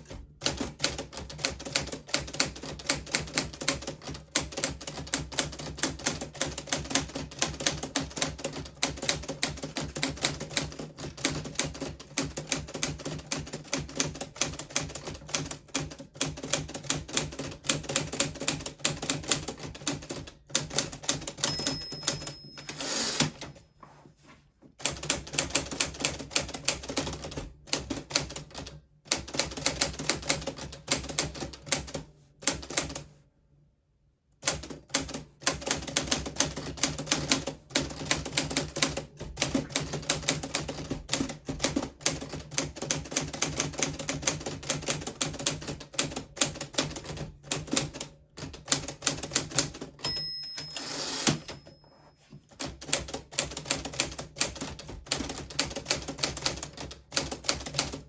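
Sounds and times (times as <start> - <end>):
manual typewriter typing: 0.0 - 23.6, 24.8 - 33.1, 34.4 - 51.7, 52.5 - 58.0.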